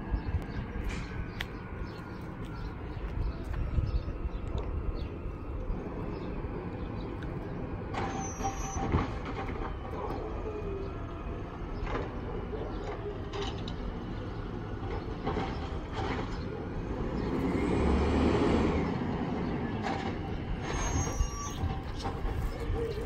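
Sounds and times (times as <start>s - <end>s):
distant garbage truck running: 0.0s - 23.0s.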